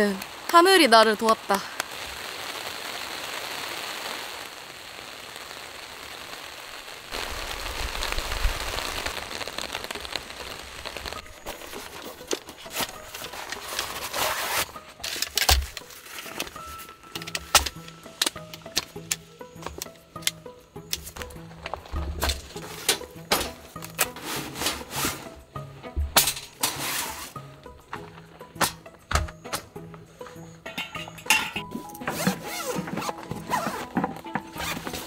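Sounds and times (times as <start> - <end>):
heavy rain pouring: 0.0 - 20.3, 20.9 - 28.2, 30.7 - 35.0
scattered raindrops tapping: 0.0 - 26.9, 27.5 - 35.0.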